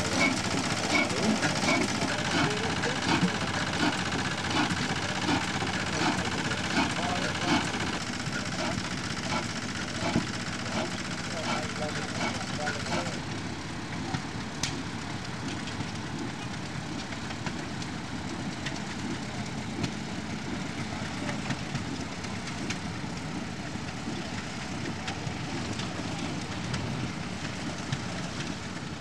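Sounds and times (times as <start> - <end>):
low rumble of engines running: 0.0 - 29.0.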